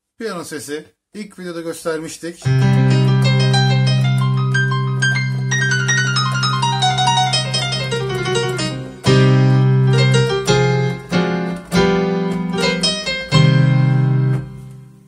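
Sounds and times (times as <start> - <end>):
keyboard piano notes and chords: 2.4 - 15.0.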